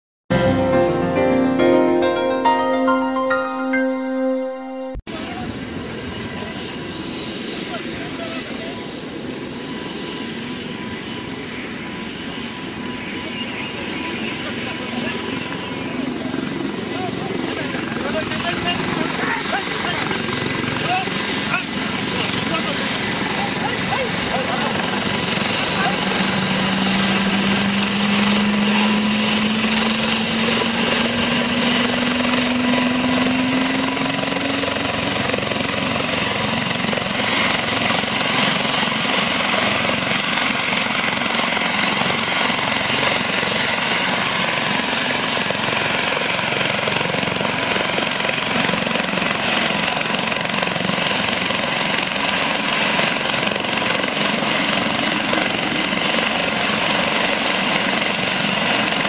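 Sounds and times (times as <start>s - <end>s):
helicopter rotor and engine: 5.1s - 59.0s.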